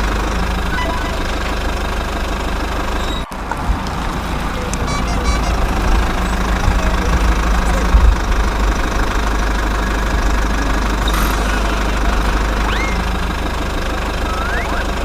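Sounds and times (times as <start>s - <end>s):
construction machinery engine rumbling: 0.0s - 15.0s.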